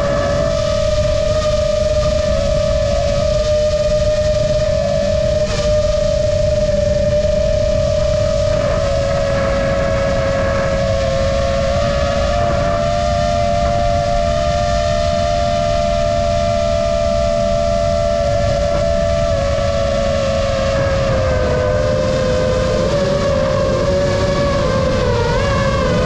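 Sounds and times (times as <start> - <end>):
drone propellers whining: 0.0 - 26.0
low rumble: 0.0 - 26.0.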